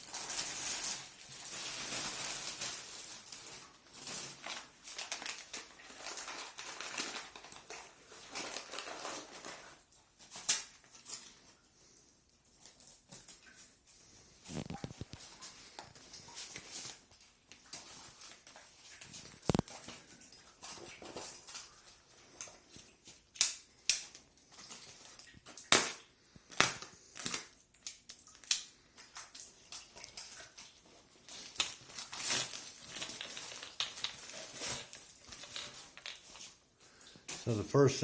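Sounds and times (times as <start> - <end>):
packaging crinkling and parts clicking: 0.0 - 11.4, 14.5 - 20.1, 20.7 - 36.6.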